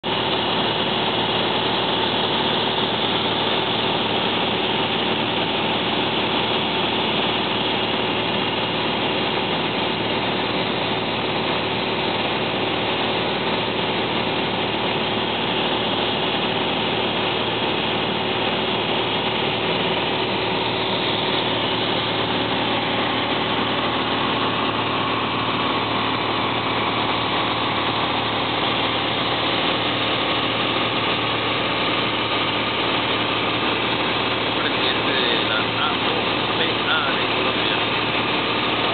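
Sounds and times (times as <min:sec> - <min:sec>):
light aircraft engine droning: 0:00.1 - 0:38.9.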